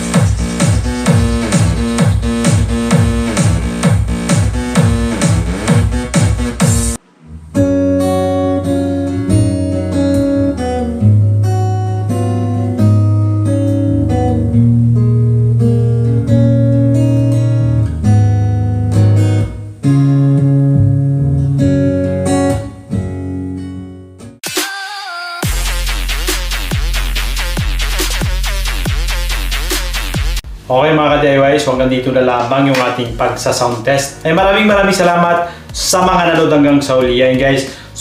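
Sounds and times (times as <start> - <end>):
song with strong bass line: 0.0 - 23.4, 24.4 - 37.8.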